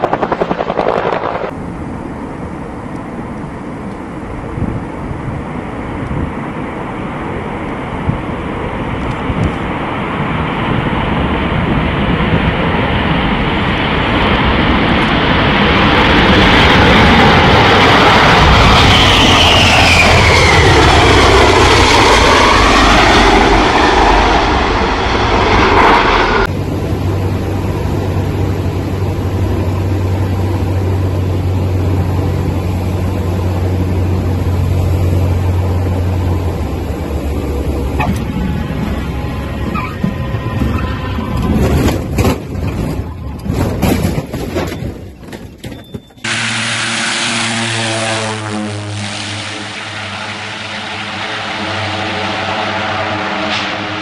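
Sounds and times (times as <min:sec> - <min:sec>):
jet aircraft passing: 0:00.0 - 0:43.7, 0:46.2 - 0:54.0
propeller plane drone in cabin: 0:00.0 - 0:54.0.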